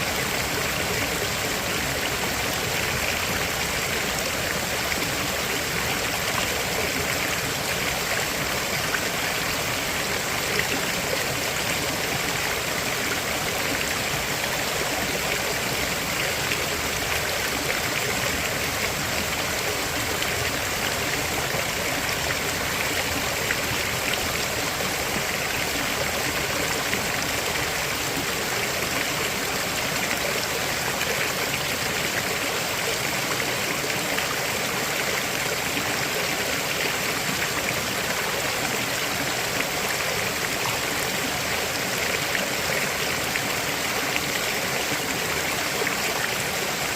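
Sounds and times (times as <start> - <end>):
river water flowing over stones: 0.0 - 46.9.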